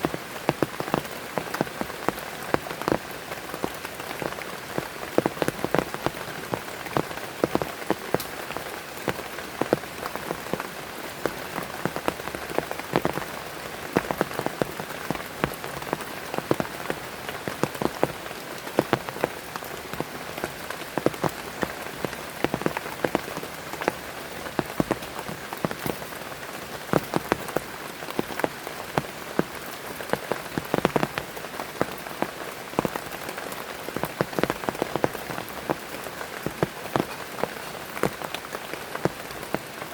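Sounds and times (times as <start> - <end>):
heavy rain hissing: 0.0 - 39.9
raindrop hits: 0.0 - 39.9.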